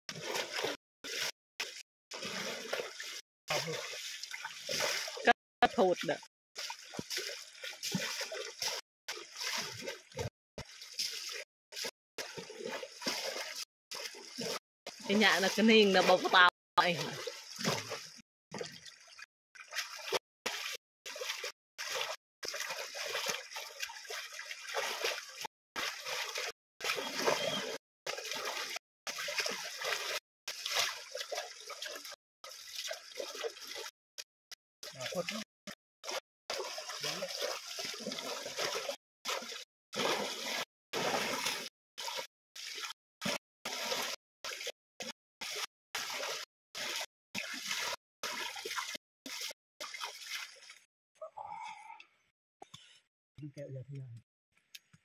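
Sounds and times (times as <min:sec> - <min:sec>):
hands slapping water: 0:00.1 - 0:50.9.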